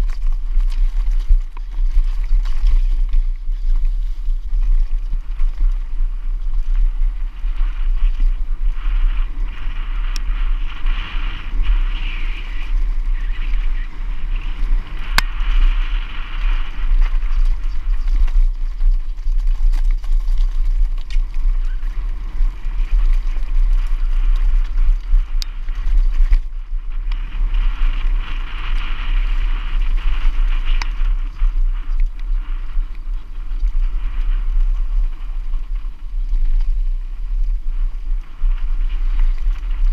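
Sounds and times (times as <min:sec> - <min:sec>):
bike rattling over rough ground: 0:00.0 - 0:39.9
wind buffeting microphone: 0:00.0 - 0:39.9.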